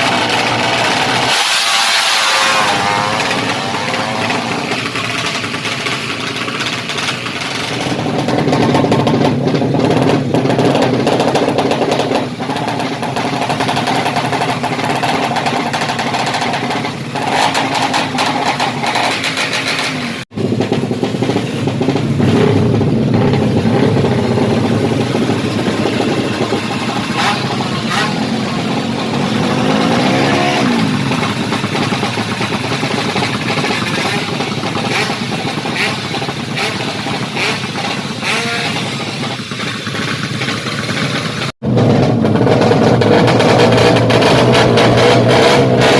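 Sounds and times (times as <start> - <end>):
motorcycle engine running loudly: 0.0 - 45.9.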